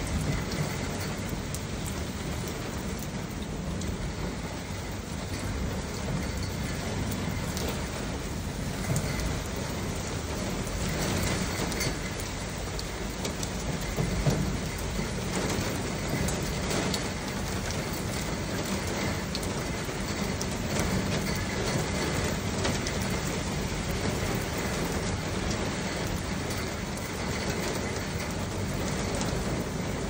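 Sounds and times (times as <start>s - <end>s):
heavy rain pouring: 0.0s - 30.0s
sharp taps of raindrops: 0.0s - 30.0s.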